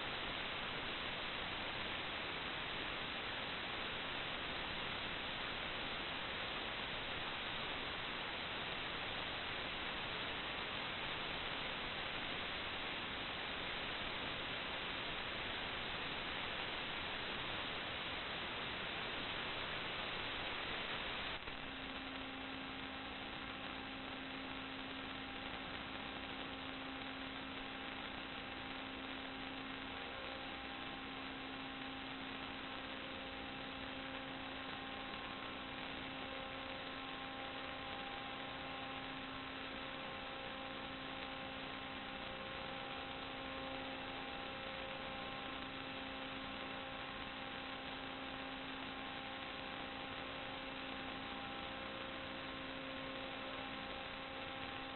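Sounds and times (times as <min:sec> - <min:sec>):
electrical hum: 0:00.0 - 0:54.9
faint steady tones: 0:00.0 - 0:54.9.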